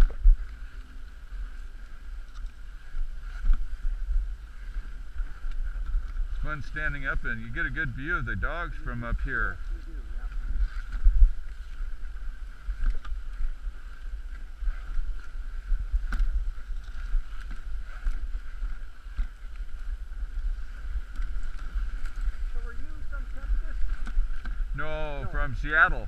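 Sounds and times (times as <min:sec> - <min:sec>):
sled runners on snow: 0:00.0 - 0:26.0
wind buffeting microphone: 0:00.0 - 0:26.0.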